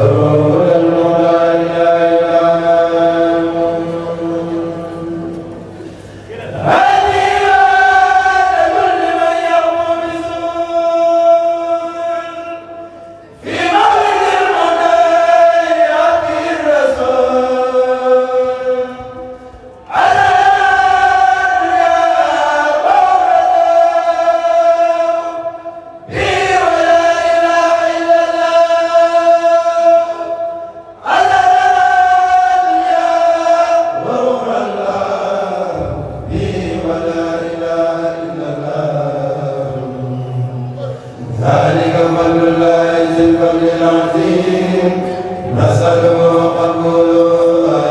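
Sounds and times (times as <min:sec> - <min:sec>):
choir chanting in unison: 0:00.0 - 0:47.9.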